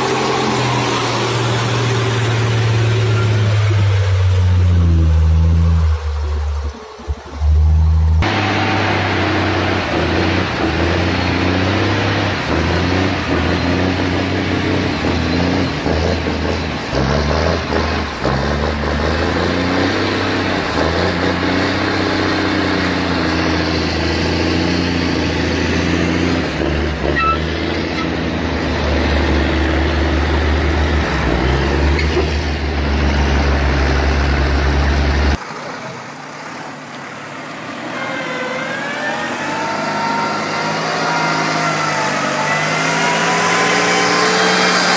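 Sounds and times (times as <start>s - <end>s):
heavy diesel truck engine: 0.0s - 44.9s
tractor engine revving: 0.0s - 44.9s.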